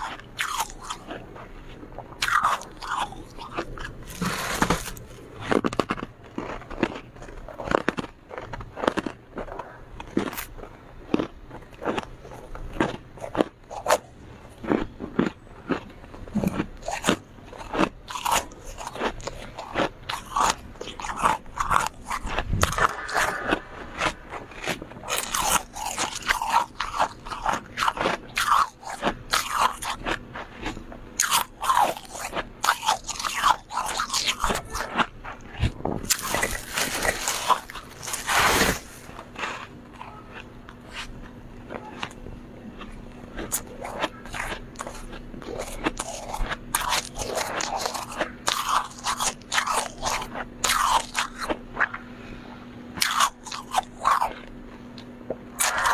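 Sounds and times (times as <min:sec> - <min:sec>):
mouth crunching and chewing frost: 0:00.0 - 0:55.9.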